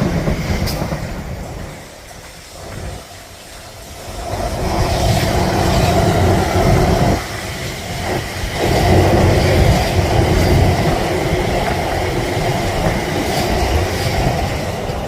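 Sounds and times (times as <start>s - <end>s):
passenger train passing: 0.0s - 15.0s.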